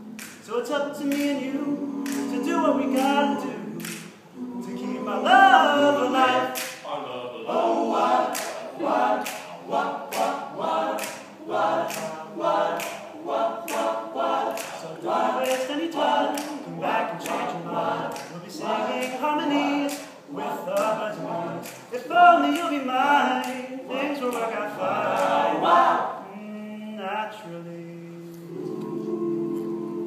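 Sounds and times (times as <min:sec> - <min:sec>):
male a cappella group singing: 0:00.0 - 0:30.0
vocal percussive accents: 0:00.0 - 0:30.0.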